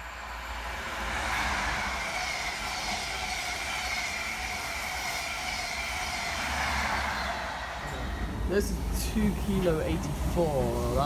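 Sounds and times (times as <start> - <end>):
electric train running past: 0.0 - 11.0
train high whine: 0.0 - 11.0.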